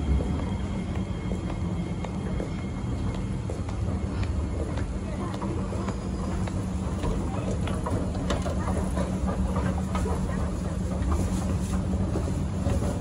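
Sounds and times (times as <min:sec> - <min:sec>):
escalator steps clicking and rattling: 0:00.0 - 0:13.0.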